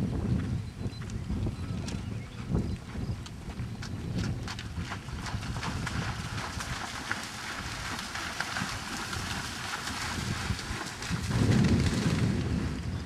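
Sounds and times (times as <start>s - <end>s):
horse hoofbeats on turf: 0.1s - 12.4s.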